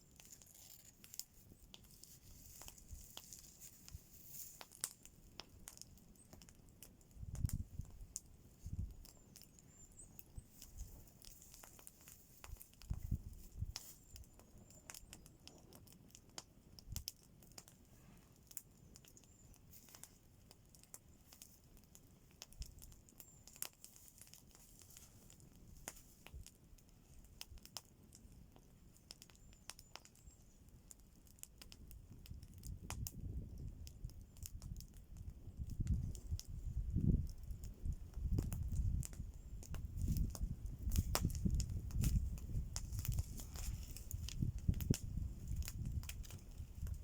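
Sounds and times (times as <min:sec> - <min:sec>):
faint sharp crackles and clicks: 0:00.0 - 0:47.0.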